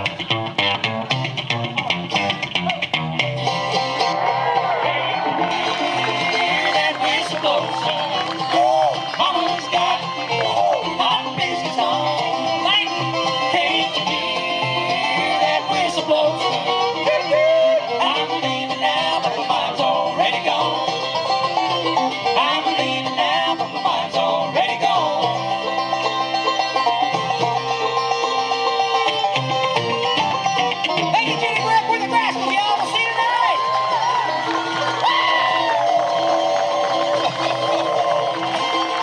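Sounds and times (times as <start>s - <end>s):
banjo: 0.0s - 39.0s
bluegrass band playing: 0.0s - 39.0s.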